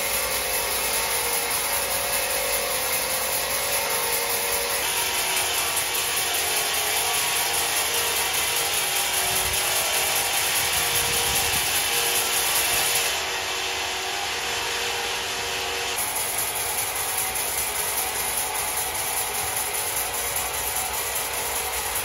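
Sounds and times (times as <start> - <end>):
sawmill saw cutting timber: 0.0 - 22.0.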